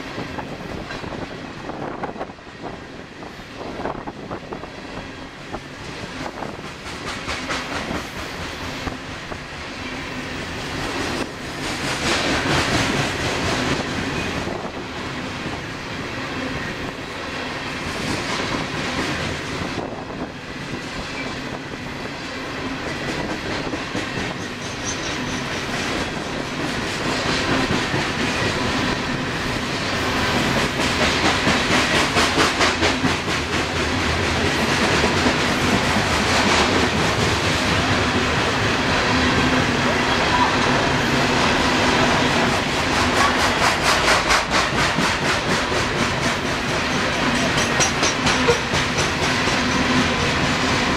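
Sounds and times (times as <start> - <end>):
freight train rolling past: 0.0 - 50.9
steel wheels clacking on rails: 0.0 - 50.9.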